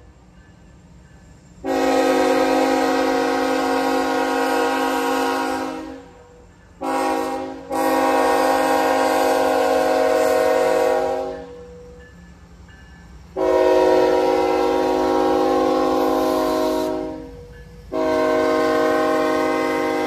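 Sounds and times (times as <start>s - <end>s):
locomotive air horn blasts: 1.6s - 6.2s, 6.8s - 11.7s, 13.3s - 20.0s.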